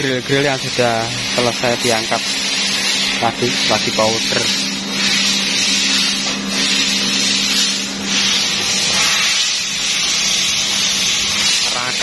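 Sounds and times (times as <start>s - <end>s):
workshop machinery hissing: 0.0s - 12.0s.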